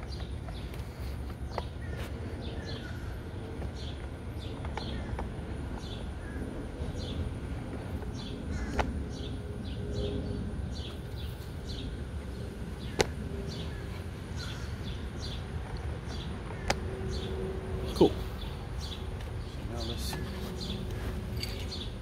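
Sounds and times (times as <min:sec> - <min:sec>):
bird chirping: 0:00.0 - 0:07.3, 0:08.0 - 0:22.0.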